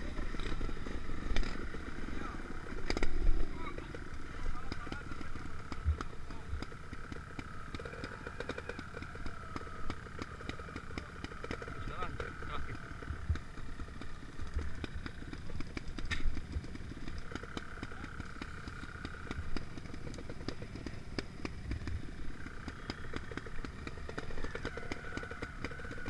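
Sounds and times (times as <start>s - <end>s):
motorcycle engines at low revs: 0.0s - 26.0s.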